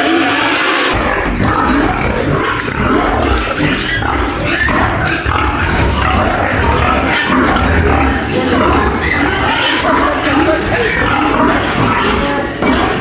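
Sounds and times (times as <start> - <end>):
pigs squealing and grunting: 0.8 - 13.0.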